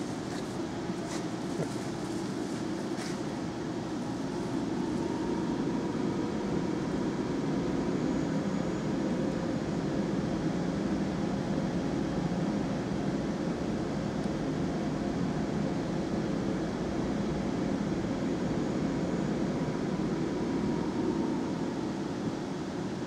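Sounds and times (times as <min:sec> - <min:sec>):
workshop background drone: 0:00.0 - 0:23.0.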